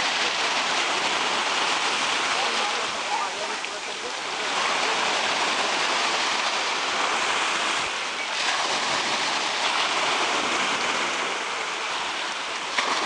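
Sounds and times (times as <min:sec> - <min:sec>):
sea surf washing onto shore: 0:00.0 - 0:13.0.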